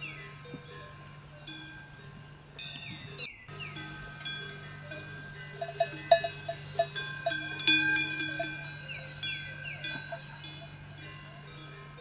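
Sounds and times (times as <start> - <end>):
small bells clanking: 0.0 - 12.0.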